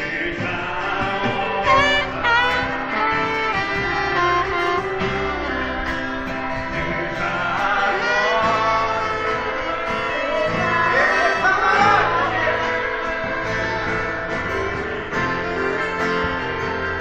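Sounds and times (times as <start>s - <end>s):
gospel group singing: 0.0s - 17.0s
instrumental backing: 0.0s - 17.0s.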